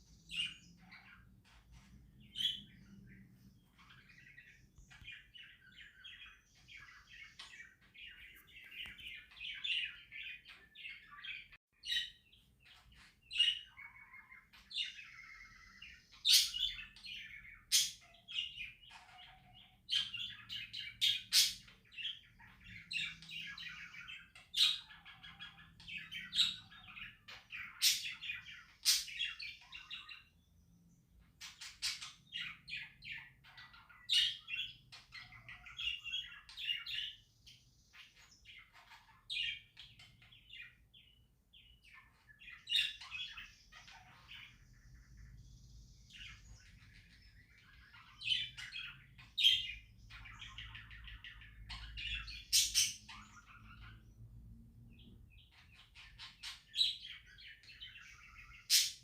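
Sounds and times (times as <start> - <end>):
budgerigars chattering: 0.3 - 30.3, 38.0 - 45.2, 46.1 - 54.2, 55.3 - 59.0.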